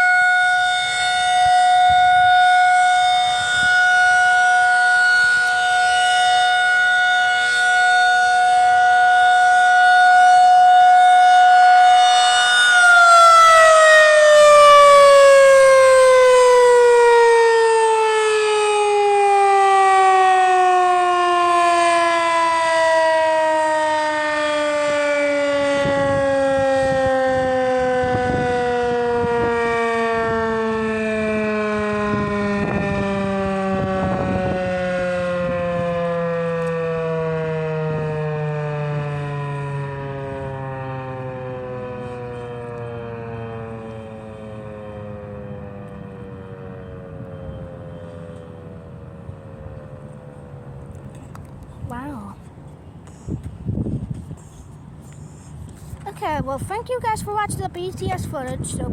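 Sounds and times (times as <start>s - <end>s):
warning siren winding down: 0.0s - 54.2s.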